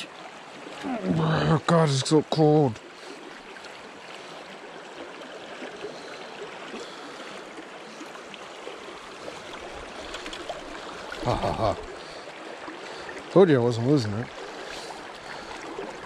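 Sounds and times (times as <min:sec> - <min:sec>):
creek water running over rocks: 0:00.0 - 0:16.0.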